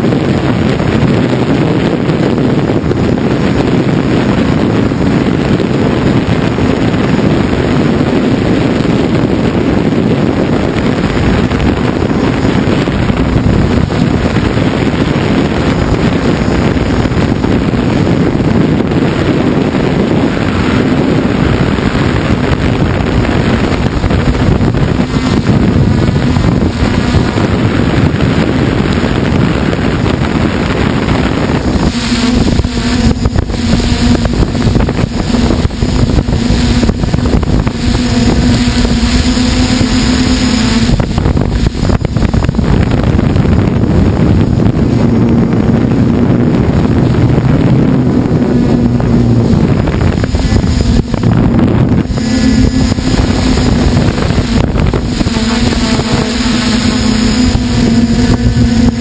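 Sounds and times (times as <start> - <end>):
drone motors and propellers humming: 0.0 - 59.0
wind rushing over microphone: 0.0 - 59.0.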